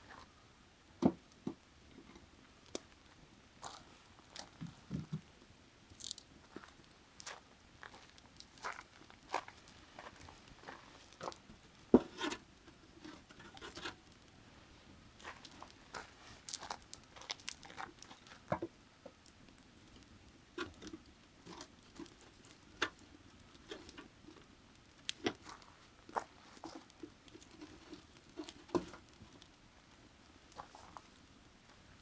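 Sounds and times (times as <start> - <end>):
fire crackling and popping: 1.2 - 32.0.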